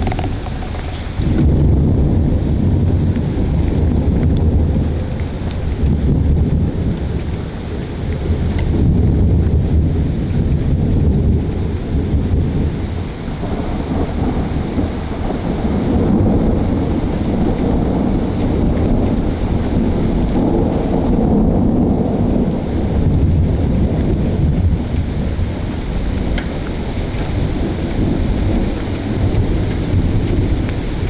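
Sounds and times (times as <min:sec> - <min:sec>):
rain falling: 0:00.0 - 0:31.0
thunder rumbling: 0:00.0 - 0:31.0.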